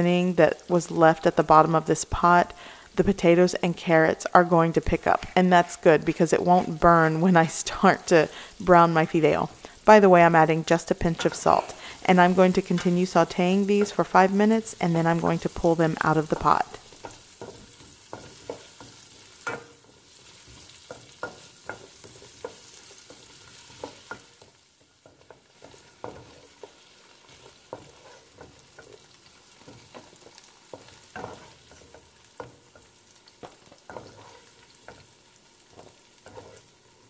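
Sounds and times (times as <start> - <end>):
vegetables sizzling in oil: 0.0 - 37.0
wooden spoon scraping a pan: 0.8 - 37.0.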